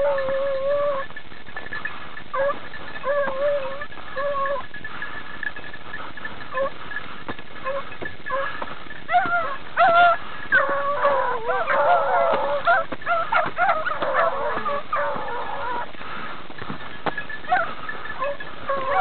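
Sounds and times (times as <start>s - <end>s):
dogs baying: 0.0s - 19.0s.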